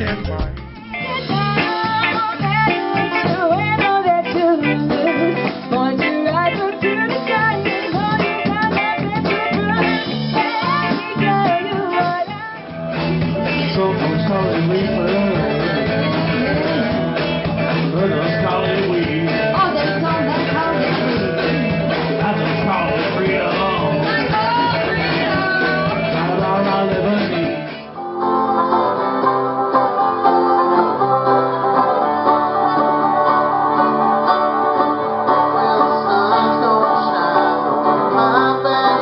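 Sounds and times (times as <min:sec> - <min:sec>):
bluegrass string-band music: 0:00.0 - 0:39.0.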